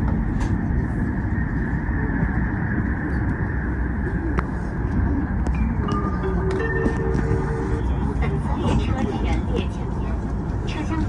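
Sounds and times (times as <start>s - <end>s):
train rumble inside cabin: 0.0s - 11.0s.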